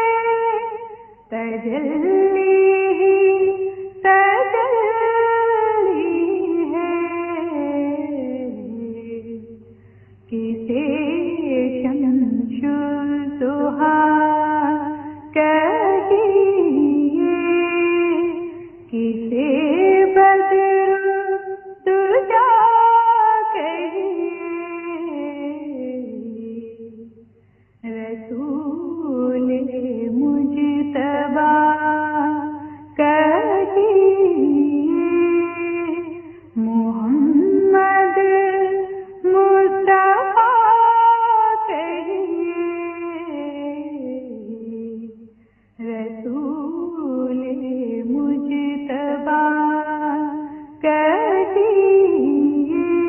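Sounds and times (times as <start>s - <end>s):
woman singing devotional song: 0.0s - 53.0s.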